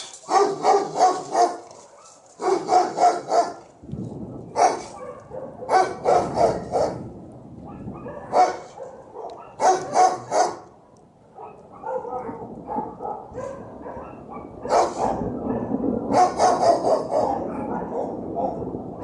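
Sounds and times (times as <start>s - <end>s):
dog barking: 0.3s - 3.6s, 4.6s - 7.0s, 7.6s - 18.7s.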